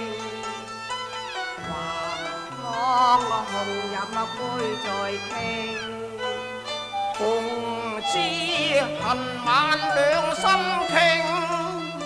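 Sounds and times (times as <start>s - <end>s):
bowed string melody with vibrato: 0.0s - 12.0s.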